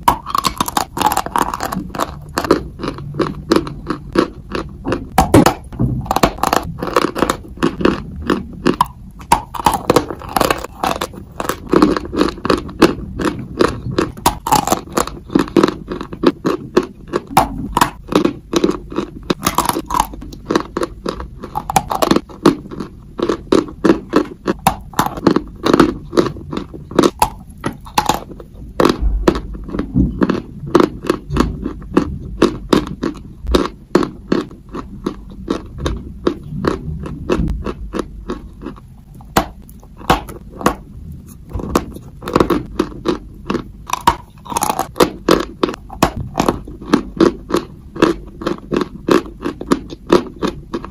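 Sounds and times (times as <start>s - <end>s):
crisp chewing crunches: 0.0s - 50.9s.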